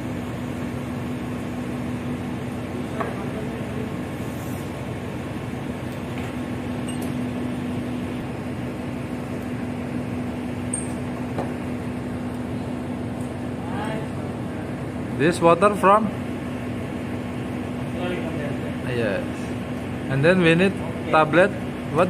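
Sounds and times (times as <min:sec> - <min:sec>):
ship machinery drone: 0:00.0 - 0:22.0.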